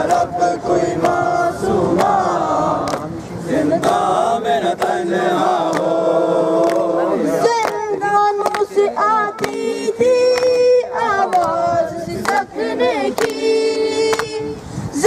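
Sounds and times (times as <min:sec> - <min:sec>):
crowd of men chanting: 0:00.0 - 0:14.3.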